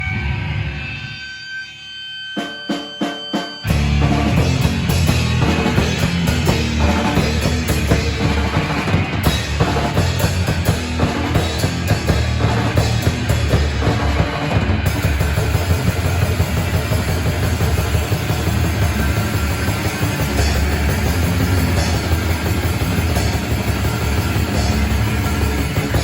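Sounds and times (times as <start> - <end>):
distorted guitars: 0.0 - 26.0
death metal band playing: 2.3 - 26.0
heavy bass drum: 3.7 - 26.0.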